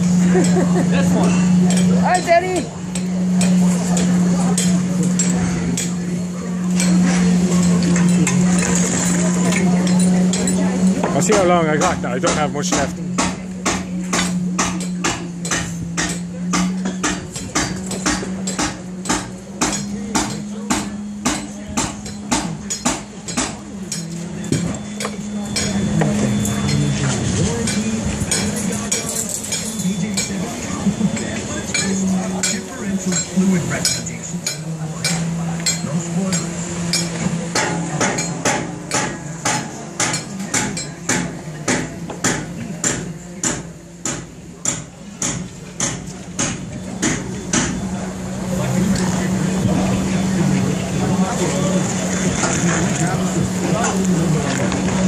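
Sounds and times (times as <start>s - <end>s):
hammer blows with metallic ring: 0.0s - 51.6s
low machinery hum: 0.0s - 55.0s.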